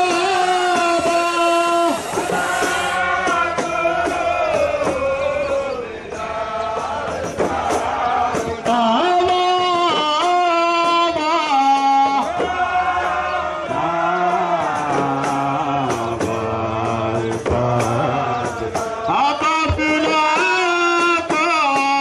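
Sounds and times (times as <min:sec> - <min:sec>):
group singing chant: 0:00.0 - 0:22.0
sharp percussion strikes: 0:00.0 - 0:22.0.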